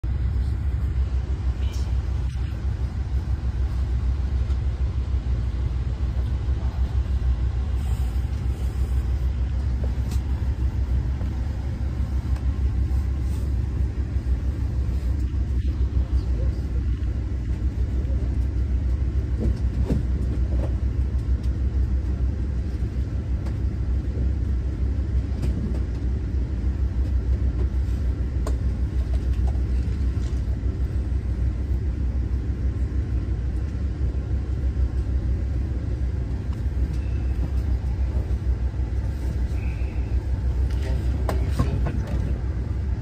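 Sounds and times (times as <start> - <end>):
train running rumble: 0.0 - 43.0.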